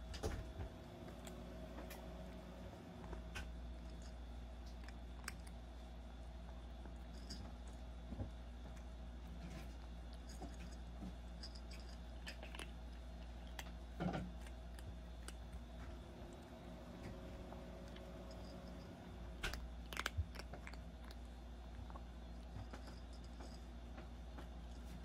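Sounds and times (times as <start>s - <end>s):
steady low hum: 0.0s - 25.0s
kitten crunching dry kibble: 0.2s - 25.0s.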